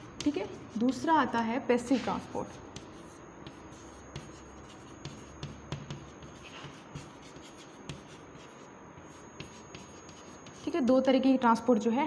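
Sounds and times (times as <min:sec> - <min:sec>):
chalk writing on chalkboard: 0:00.0 - 0:10.9.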